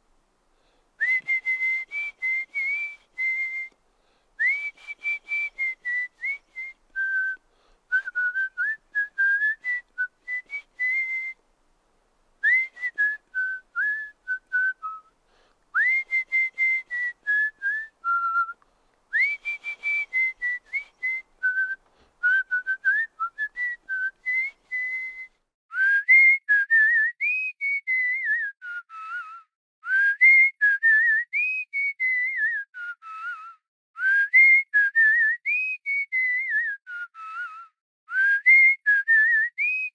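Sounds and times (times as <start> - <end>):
person whistling: 1.0 - 3.8, 4.4 - 11.4, 12.4 - 39.9.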